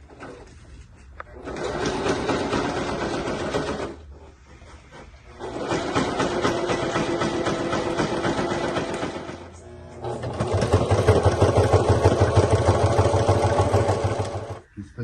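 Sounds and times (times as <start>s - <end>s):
electric sewing machine stitching: 1.4s - 4.0s, 5.2s - 14.6s.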